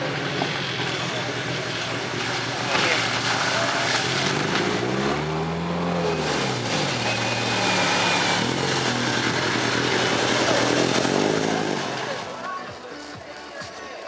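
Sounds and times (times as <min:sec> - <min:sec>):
diesel engine revving: 0:00.0 - 0:12.7.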